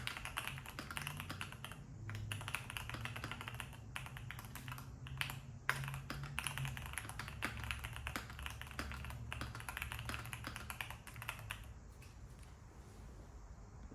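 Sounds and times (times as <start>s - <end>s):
fast mechanical keyboard typing: 0.0s - 11.8s.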